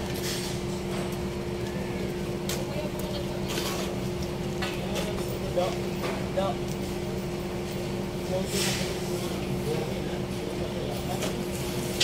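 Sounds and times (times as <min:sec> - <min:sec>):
steady engine hum: 0:00.0 - 0:12.0.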